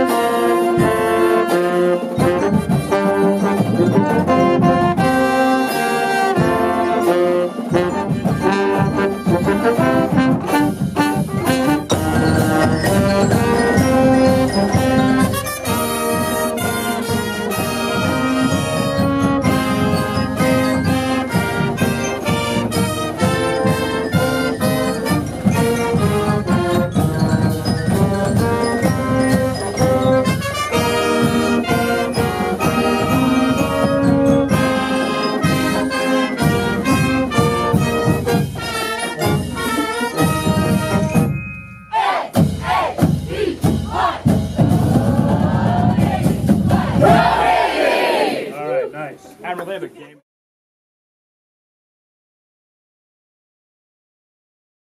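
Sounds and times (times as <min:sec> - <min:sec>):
steady drum beat: 0:00.0 - 0:48.5
brass band playing: 0:00.0 - 0:49.1.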